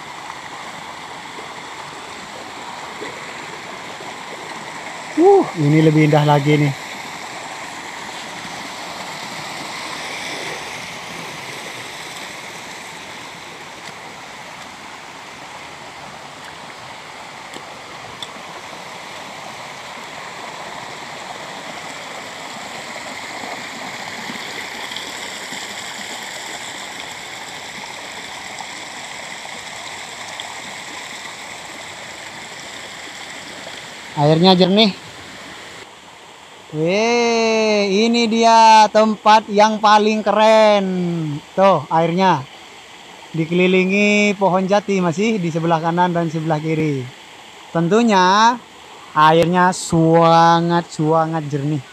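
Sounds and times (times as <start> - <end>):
stream water running over rocks: 0.0 - 51.9.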